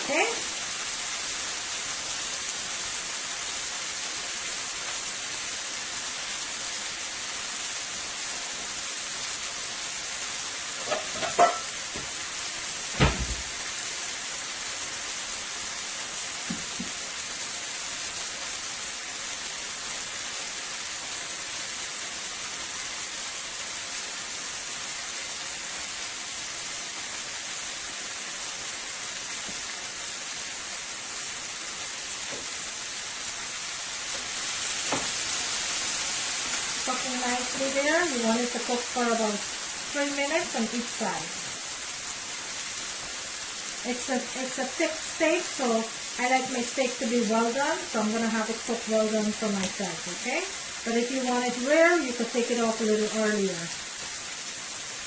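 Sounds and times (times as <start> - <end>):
steak sizzling on a grill pan: 0.0 - 55.0.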